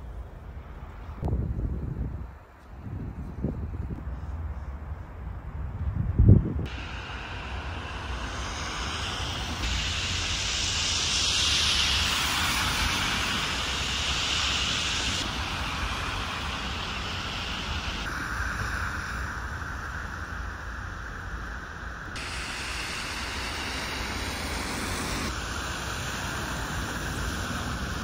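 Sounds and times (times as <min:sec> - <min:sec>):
low hum of traffic: 0:00.0 - 0:28.0
wind noise hiss: 0:00.0 - 0:28.0.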